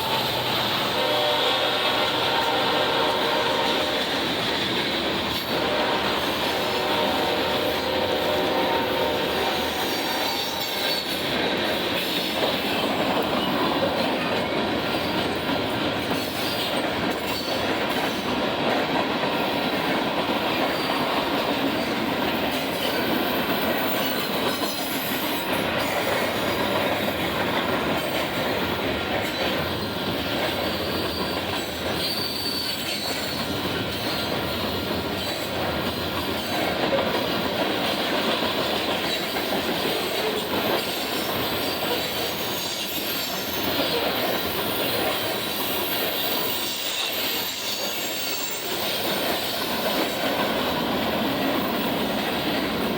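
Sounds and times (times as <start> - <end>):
train wheels on rails: 0.0 - 52.9.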